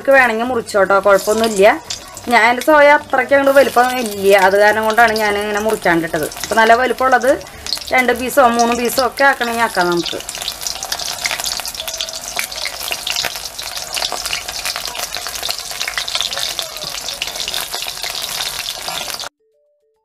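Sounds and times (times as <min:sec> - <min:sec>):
deep-frying sizzle in oil: 0:00.3 - 0:19.3.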